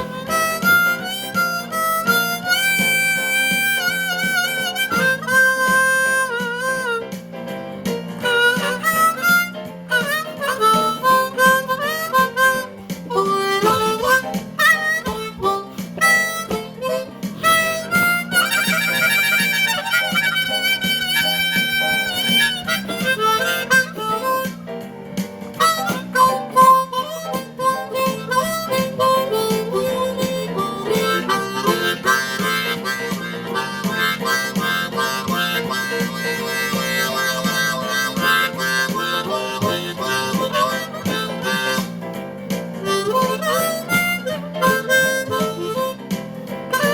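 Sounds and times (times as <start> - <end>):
blues harmonica: 0.0 - 46.9
low rhythmic accompaniment: 0.0 - 46.9.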